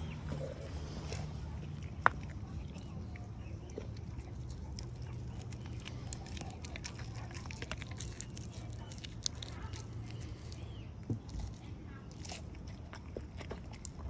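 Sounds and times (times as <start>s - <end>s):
dog chewing meat: 0.0s - 14.0s.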